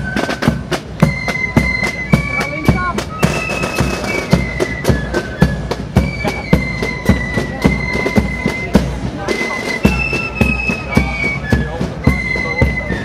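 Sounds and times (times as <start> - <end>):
steady drum beat: 0.0 - 13.0.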